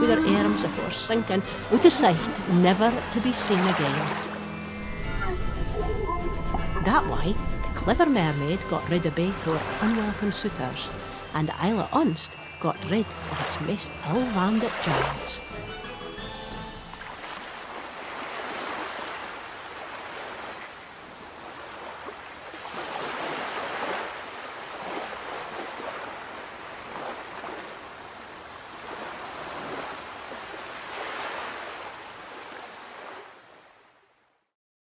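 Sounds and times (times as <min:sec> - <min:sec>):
sea waves washing in: 0:00.0 - 0:34.1.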